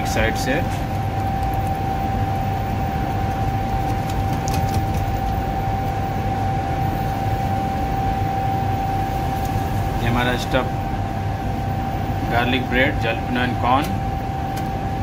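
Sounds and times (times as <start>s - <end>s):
constant high whine: 0.0s - 15.0s
kitchen equipment hum: 0.0s - 15.0s.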